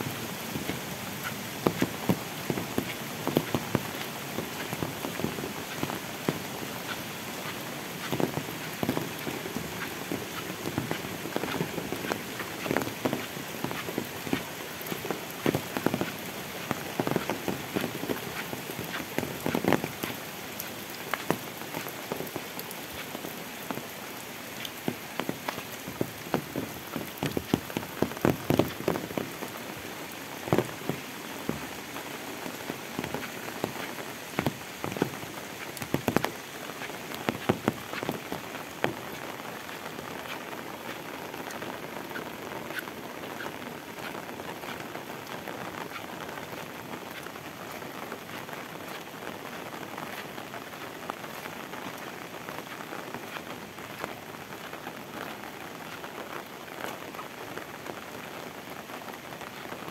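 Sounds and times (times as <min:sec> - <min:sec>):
heavy rain on leaves and asphalt: 0:00.0 - 0:59.9.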